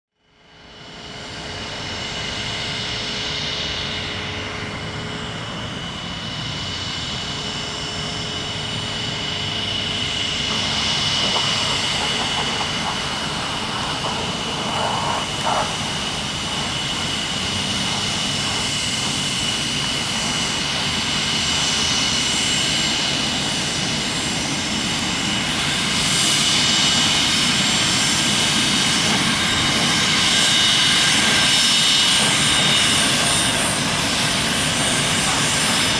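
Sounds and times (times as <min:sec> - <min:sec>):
jet engines whining and roaring: 0:00.2 - 0:35.9.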